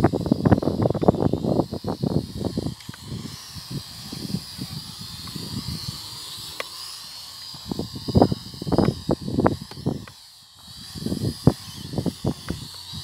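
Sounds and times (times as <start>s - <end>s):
wind buffeting microphone: 0.0s - 6.5s, 7.5s - 13.0s
drone propellers whining: 0.0s - 13.0s.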